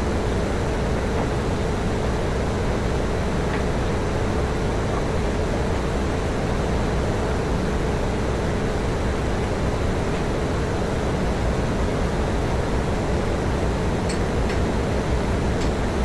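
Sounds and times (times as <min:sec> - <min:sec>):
engine room machinery rumble: 0:00.0 - 0:16.0.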